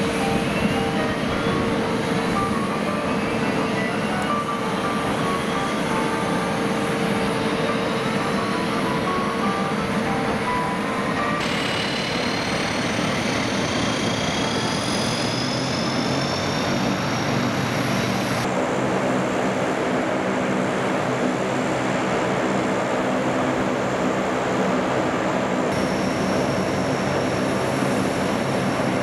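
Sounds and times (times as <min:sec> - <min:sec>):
turboprop engines droning: 0:00.0 - 0:29.0.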